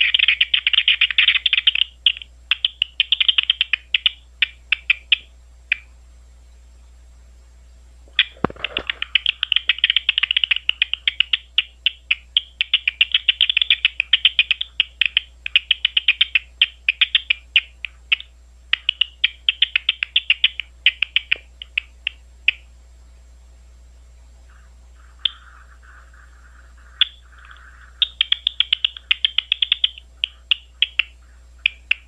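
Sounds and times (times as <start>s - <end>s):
bat echolocation clicks: 0.0s - 5.9s, 8.2s - 22.7s, 25.2s - 25.6s, 26.5s - 32.0s.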